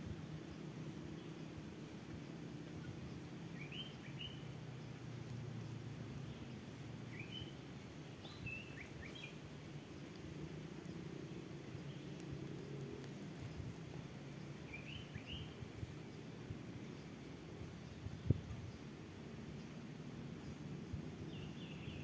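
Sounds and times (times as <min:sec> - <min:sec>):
low outdoor hum: 0:00.0 - 0:22.0
small birds chirping: 0:00.0 - 0:22.0.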